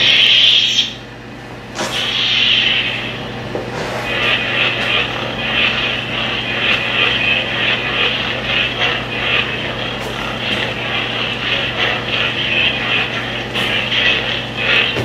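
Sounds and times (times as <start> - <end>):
lightsaber electric hum: 0.0 - 15.0.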